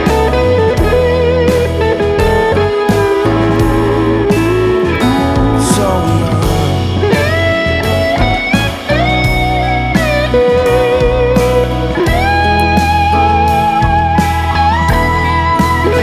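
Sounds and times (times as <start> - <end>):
bass and steady beat: 0.0 - 16.0
slide guitar gliding notes: 0.0 - 16.0.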